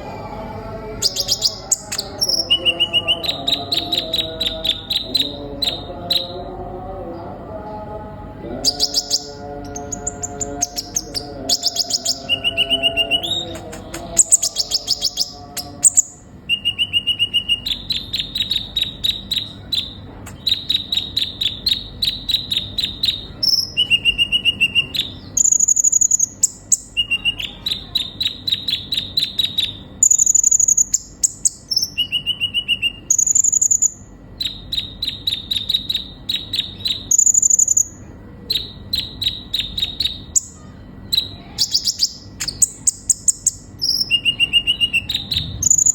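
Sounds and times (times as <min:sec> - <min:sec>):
bird buzzy trills: 0:00.0 - 0:07.4, 0:08.3 - 0:45.9.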